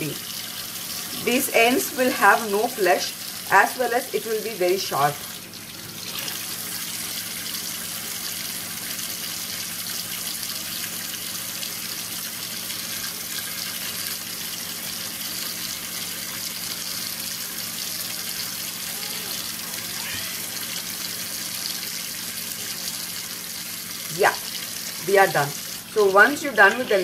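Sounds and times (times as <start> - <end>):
faucet running into metal sink: 0.0 - 27.0.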